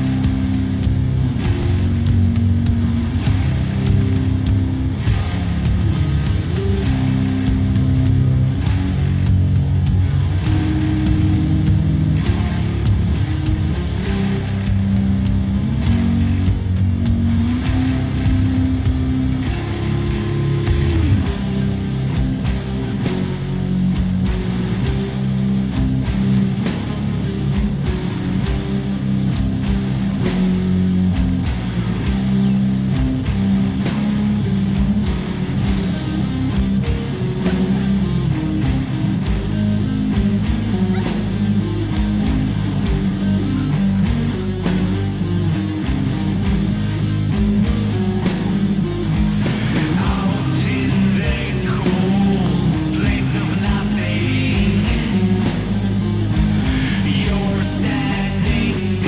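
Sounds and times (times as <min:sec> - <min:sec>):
distorted electric guitar: 0:00.0 - 0:59.0
steady drum beat: 0:00.0 - 0:59.0.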